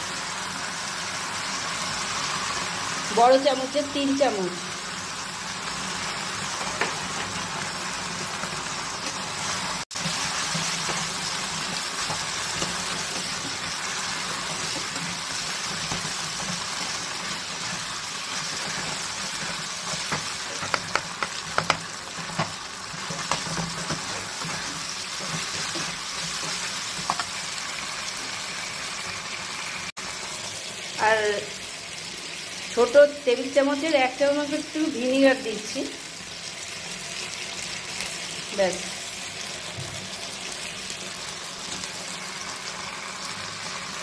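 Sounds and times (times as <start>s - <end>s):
vegetables sizzling in a frying pan: 0.0s - 44.0s.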